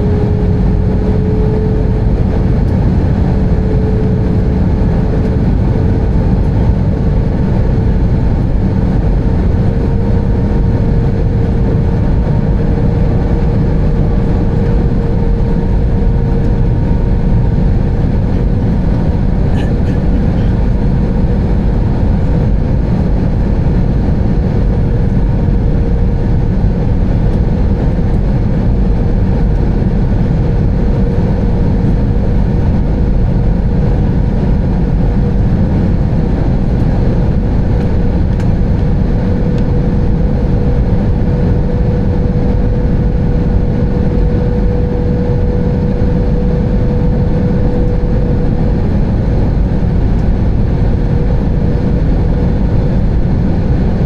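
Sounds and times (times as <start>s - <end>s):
aircraft engines and airflow rushing: 0.0s - 54.0s
constant cabin hum: 0.0s - 54.0s.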